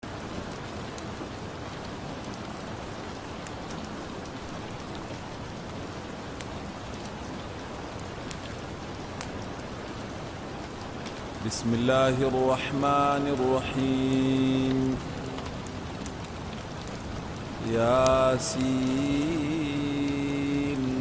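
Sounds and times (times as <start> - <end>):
steady rain: 0.0 - 21.0
wood fire crackling: 0.0 - 21.0.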